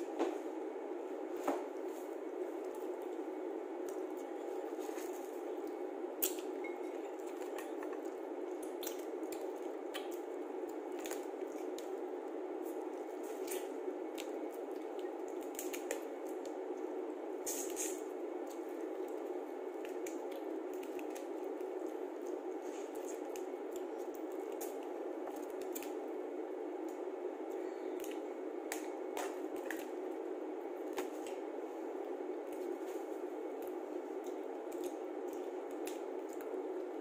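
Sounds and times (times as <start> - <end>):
steady background noise: 0.0 - 37.0
wet eating sounds: 1.7 - 37.0.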